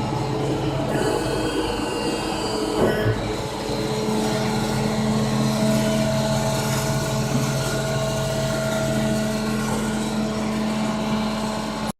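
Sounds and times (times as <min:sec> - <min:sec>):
electric motor humming: 0:00.0 - 0:11.9.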